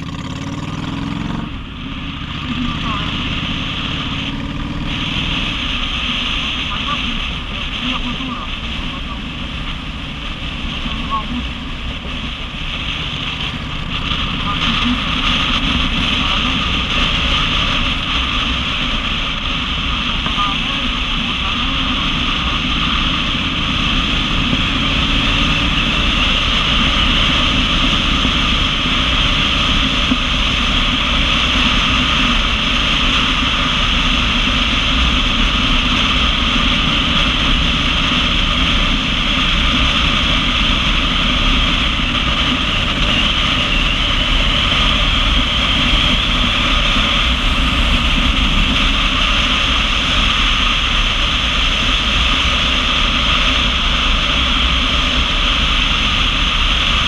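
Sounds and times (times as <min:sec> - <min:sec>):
motorcycle engine rumble: 0:00.0 - 0:57.0
wind rushing on microphone: 0:00.0 - 0:57.0.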